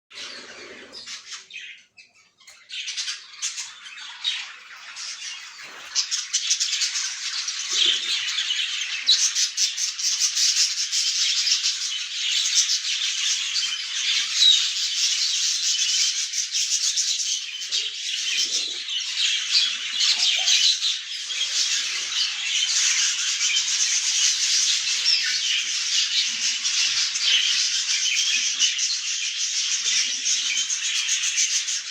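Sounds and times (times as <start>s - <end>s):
budgerigars chattering and squawking: 0.2s - 31.9s.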